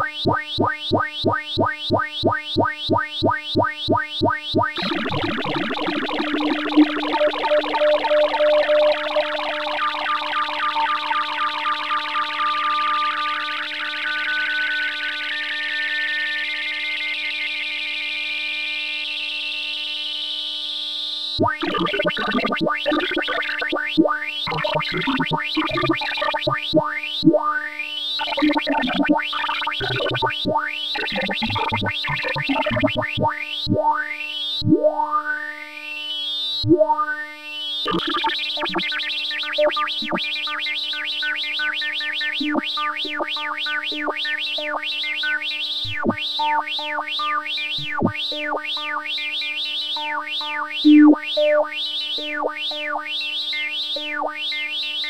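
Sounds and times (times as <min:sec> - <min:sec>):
sine-wave tones: 0:00.0 - 0:55.0.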